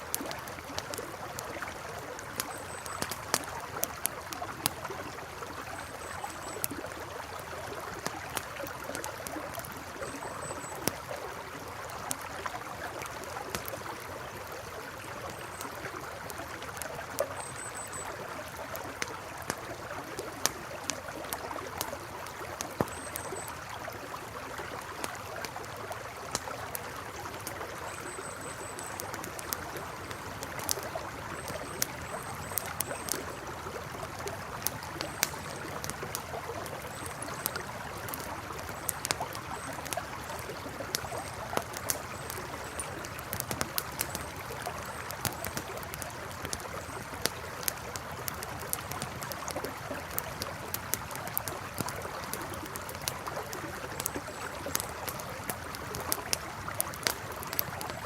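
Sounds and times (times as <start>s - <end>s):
campfire crackling: 0.0s - 58.0s
river flowing: 0.0s - 58.0s.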